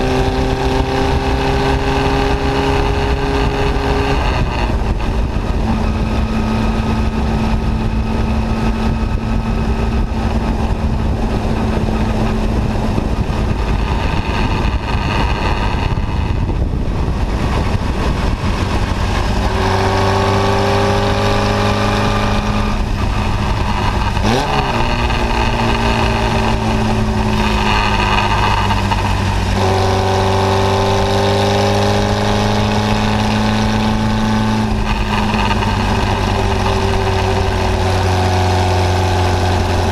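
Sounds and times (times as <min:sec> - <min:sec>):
racing car engine revving: 0:00.0 - 0:39.9
wind noise: 0:00.0 - 0:39.9.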